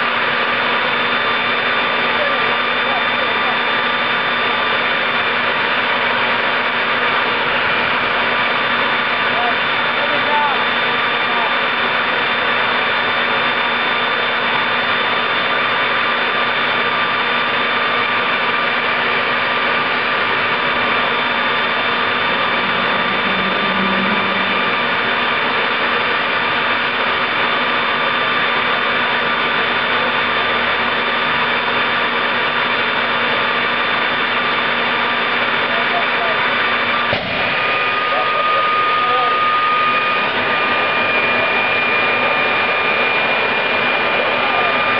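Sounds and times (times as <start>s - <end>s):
turbojet engine running: 0.0s - 44.9s.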